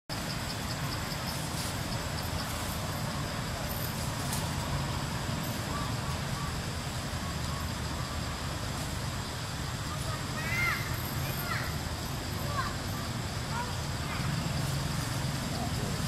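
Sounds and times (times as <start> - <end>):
distant road traffic rumble: 0.1 - 16.0.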